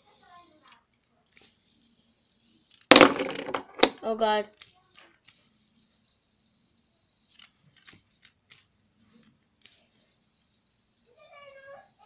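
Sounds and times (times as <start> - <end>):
fidget spinner whirring hiss: 0.0 - 12.0.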